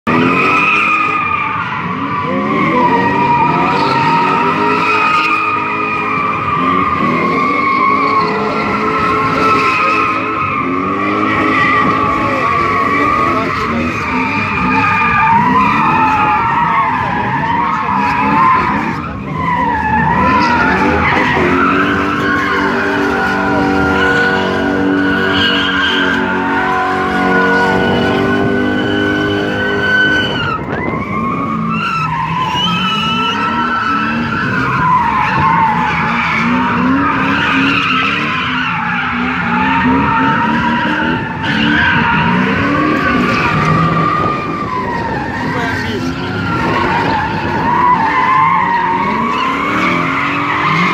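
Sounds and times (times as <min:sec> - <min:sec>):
car engines revving: 0:00.0 - 0:50.9
tyres squealing: 0:00.2 - 0:28.0, 0:28.6 - 0:50.9.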